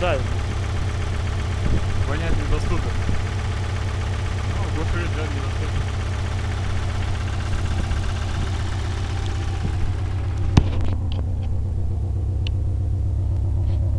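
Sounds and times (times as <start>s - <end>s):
car engine idling with knock: 0.0s - 13.9s.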